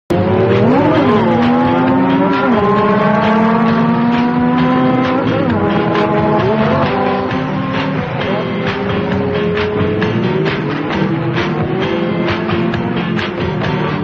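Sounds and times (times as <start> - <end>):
motorcycle engines: 0.1 - 14.0.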